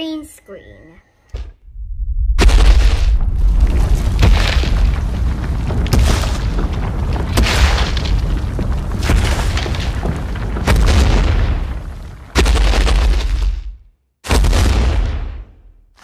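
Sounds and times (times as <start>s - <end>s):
deep booms: 1.4s - 15.7s.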